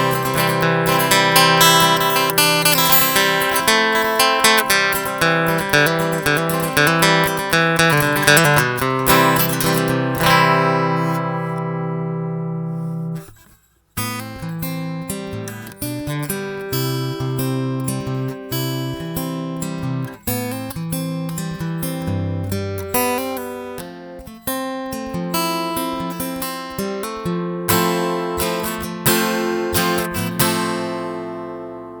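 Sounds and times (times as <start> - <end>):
acoustic guitar chords: 0.0 - 32.0.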